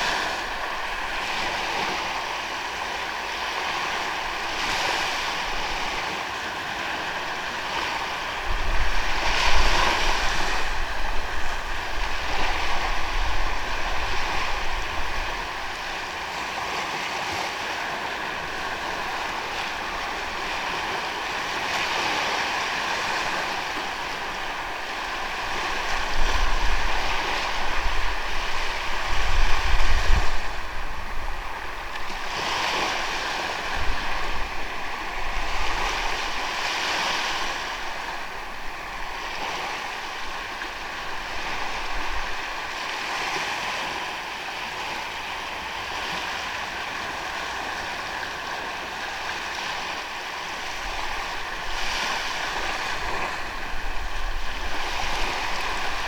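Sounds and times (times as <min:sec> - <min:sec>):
ocean waves on sandy beach: 0:00.0 - 0:56.0.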